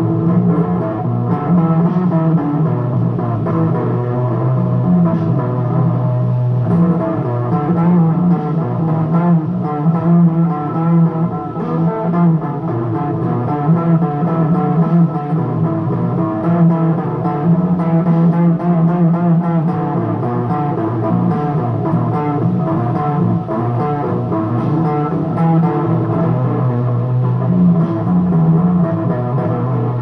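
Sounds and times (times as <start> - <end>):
electric guitar playing blues: 0.0 - 30.0.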